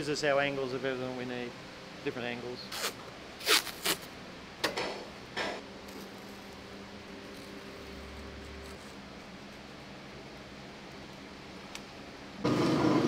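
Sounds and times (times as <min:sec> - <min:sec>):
low workshop hum: 0:00.0 - 0:13.0.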